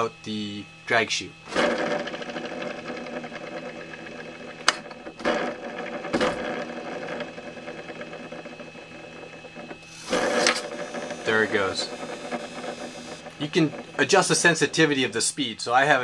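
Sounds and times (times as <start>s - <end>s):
small cooling fan whirring: 0.0s - 16.0s
wheel rubbing: 1.5s - 15.2s.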